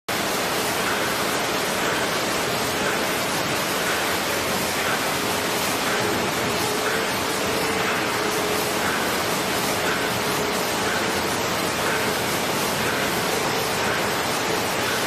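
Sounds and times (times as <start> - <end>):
packing machine running: 0.1 - 15.0.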